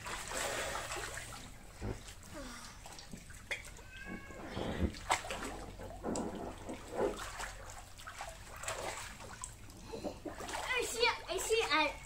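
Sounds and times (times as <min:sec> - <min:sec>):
water splashing in swimming pool: 0:00.0 - 0:12.0.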